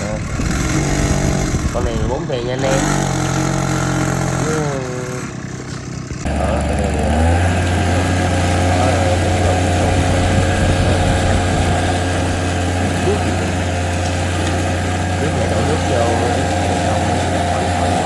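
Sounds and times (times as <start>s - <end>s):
small petrol engine idling: 0.0s - 18.0s.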